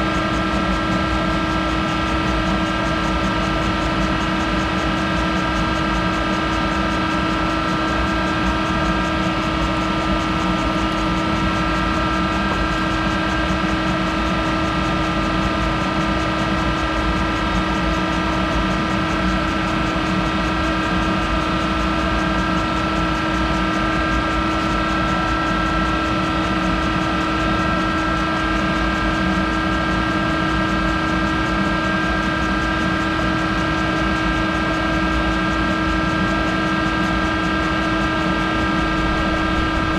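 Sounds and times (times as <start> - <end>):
lathe humming and whining: 0.0 - 39.9.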